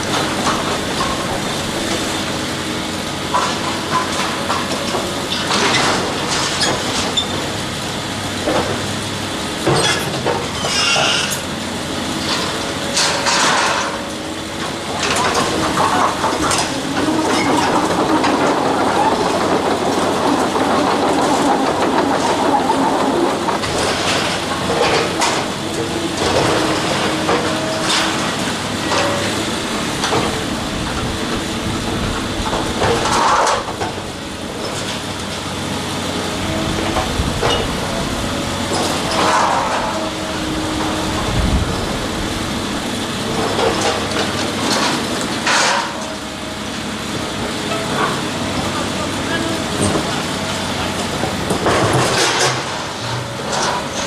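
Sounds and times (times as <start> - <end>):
demolition machine droning: 0.0 - 54.0.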